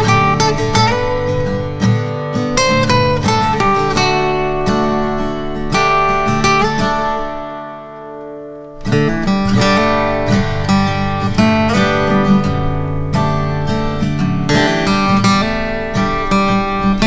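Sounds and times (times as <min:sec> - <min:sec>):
acoustic guitar picking and strumming: 0:00.0 - 0:17.0.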